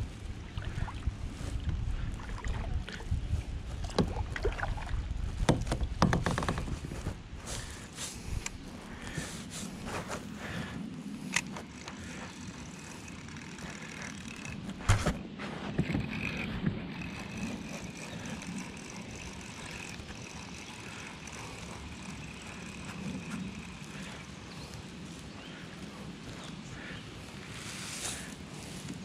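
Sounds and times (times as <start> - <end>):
water around a kayak: 0.0 - 29.0
wind: 0.0 - 29.0.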